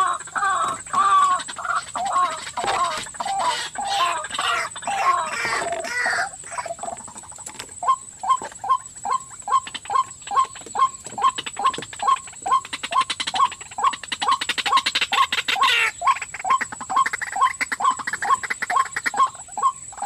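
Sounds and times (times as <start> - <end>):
high insect drone: 0.0 - 20.0
waterhen calling: 0.0 - 20.0.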